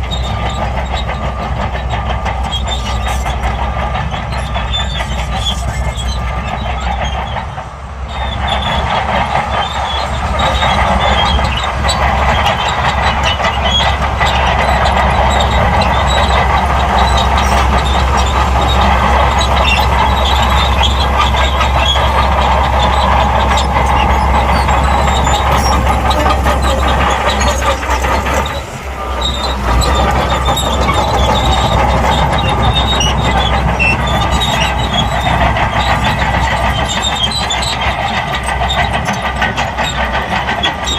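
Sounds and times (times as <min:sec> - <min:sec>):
bulldozer diesel engine under load: 0:00.0 - 0:40.9
steel tracks clanking: 0:00.0 - 0:40.9.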